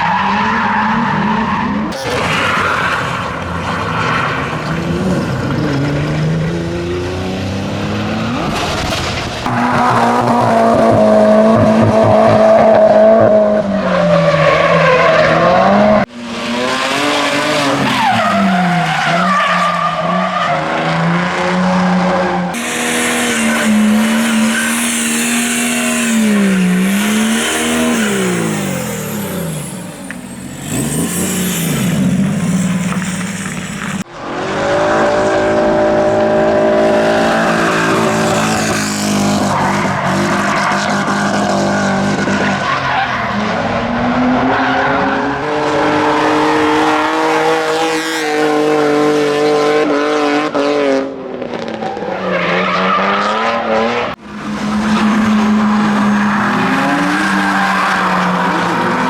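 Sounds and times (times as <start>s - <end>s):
tyres squealing and skidding: 0.0s - 7.3s, 8.2s - 34.1s, 36.6s - 49.1s, 51.7s - 59.0s
car engines revving: 0.0s - 59.0s.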